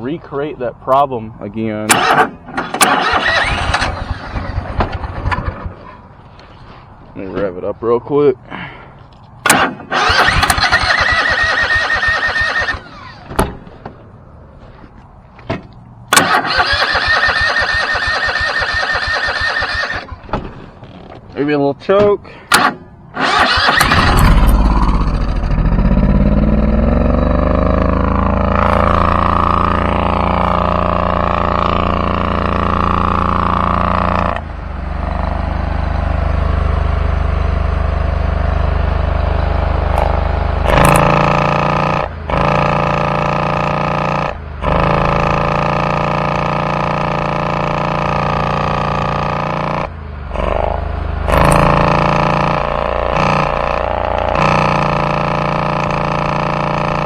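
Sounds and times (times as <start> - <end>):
mower engine revving: 1.9 - 6.8, 9.4 - 13.9, 16.1 - 21.2, 22.5 - 57.0.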